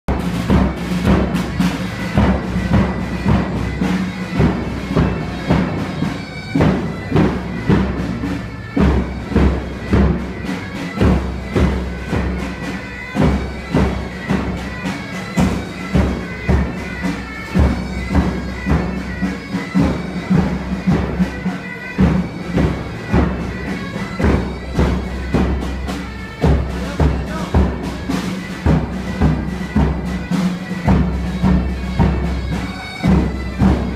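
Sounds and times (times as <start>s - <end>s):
droning wind instrument: 0.1s - 33.9s.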